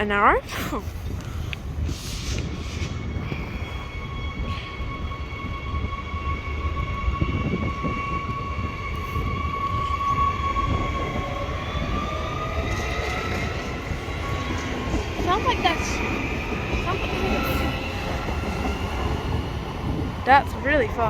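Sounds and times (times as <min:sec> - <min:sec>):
low train rumble: 0:00.0 - 0:21.0
electric train motors whining: 0:02.4 - 0:21.0.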